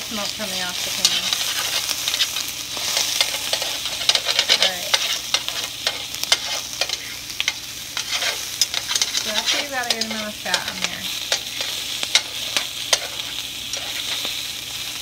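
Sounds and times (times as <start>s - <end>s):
chicken skins sizzling in a pan: 0.0s - 15.0s
metal tongs clicking in a pan: 0.2s - 14.4s.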